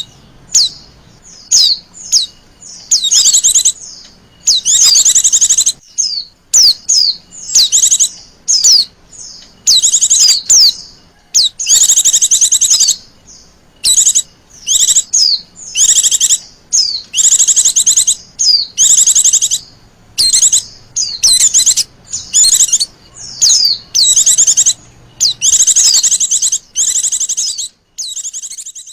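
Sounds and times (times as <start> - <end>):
bird chirping trills: 0.0 - 28.9.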